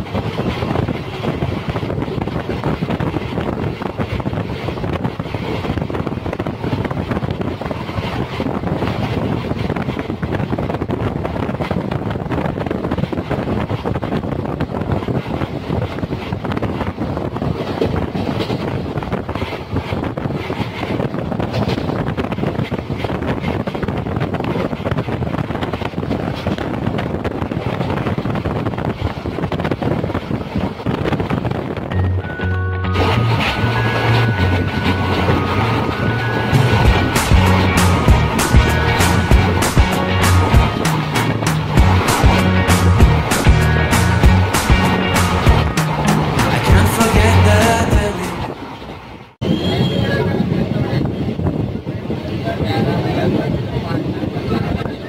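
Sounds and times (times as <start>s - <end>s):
train rumbling on track: 0.0s - 55.0s
wind rushing over microphone: 0.0s - 55.0s.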